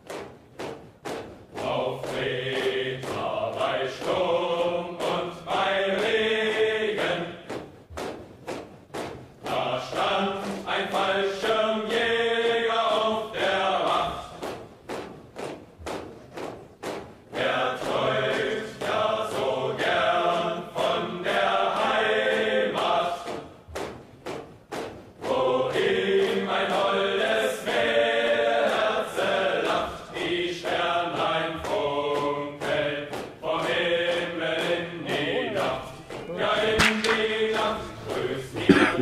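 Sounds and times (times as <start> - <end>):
drum beat: 0.0 - 39.0
choir singing: 1.6 - 7.6, 9.4 - 14.6, 17.3 - 23.6, 25.2 - 39.0.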